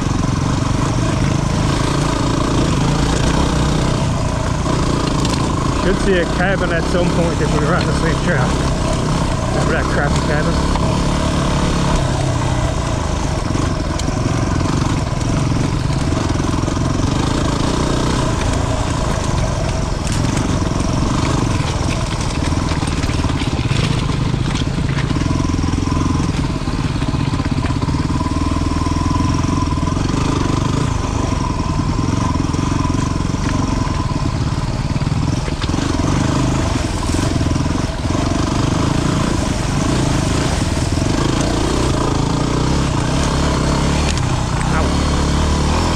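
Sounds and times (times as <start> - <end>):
motorcycle engine under changing throttle: 0.0 - 45.9.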